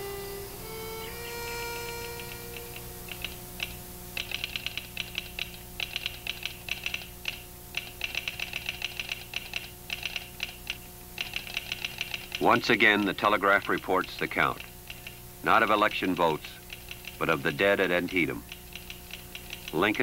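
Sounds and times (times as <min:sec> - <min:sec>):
telegraph sounder clicking: 0:01.8 - 0:20.0.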